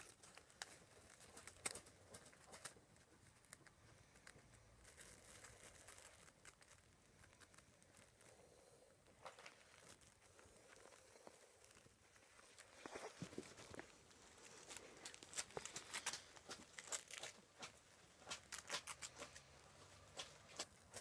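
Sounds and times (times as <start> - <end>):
faint rustles: 0.0 - 21.0.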